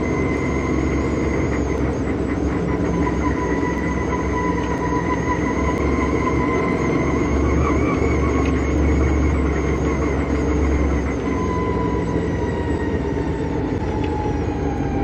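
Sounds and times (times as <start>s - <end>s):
race car engine rumble: 0.0s - 15.0s.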